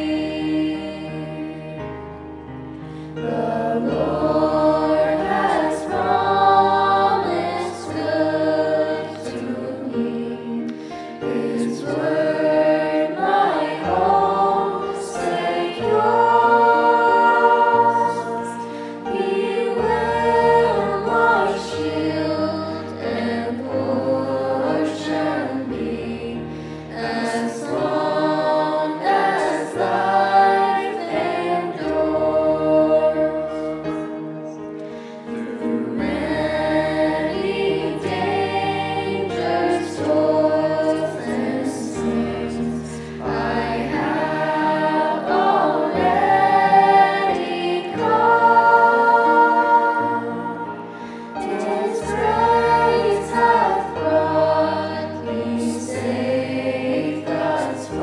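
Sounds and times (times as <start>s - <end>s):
choir singing sacred music: 0.0s - 58.0s.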